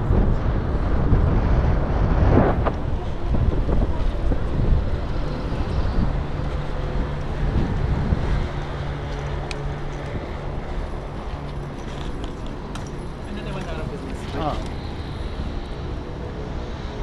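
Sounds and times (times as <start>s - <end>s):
bicycle road noise: 0.0s - 17.0s
wind buffeting microphone: 0.0s - 17.0s.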